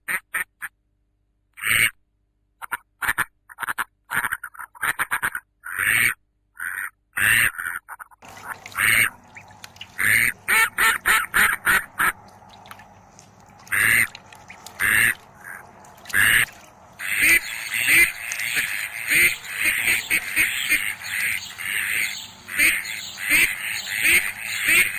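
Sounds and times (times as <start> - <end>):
ducklings quacking: 3.6 - 24.9.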